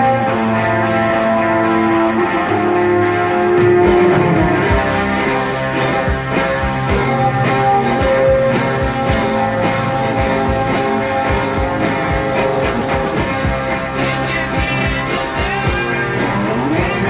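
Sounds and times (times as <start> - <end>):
guitar-led rock music: 0.0 - 17.0.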